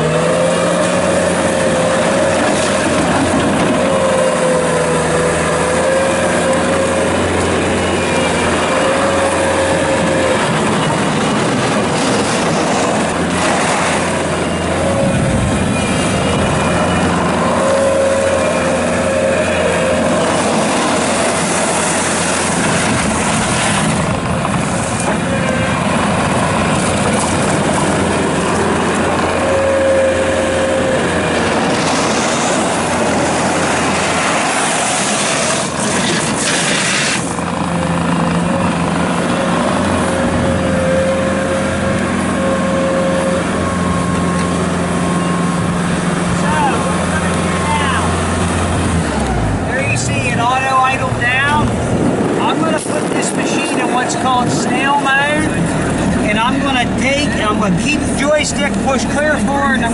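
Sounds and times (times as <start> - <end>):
diesel engine hum with whine: 0.0 - 59.9.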